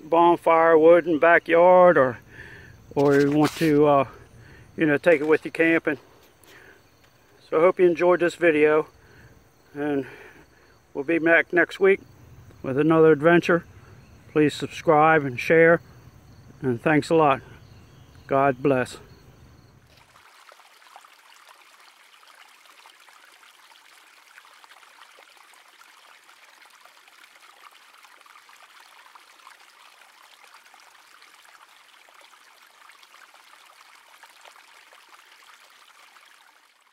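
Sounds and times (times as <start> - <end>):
creek trickling over rocks: 0.0 - 36.9.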